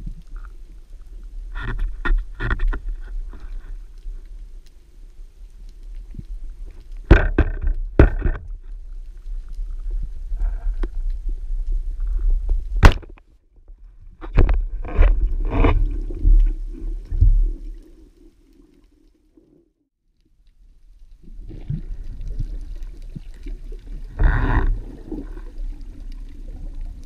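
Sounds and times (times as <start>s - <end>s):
underwater rumble: 0.0s - 27.0s.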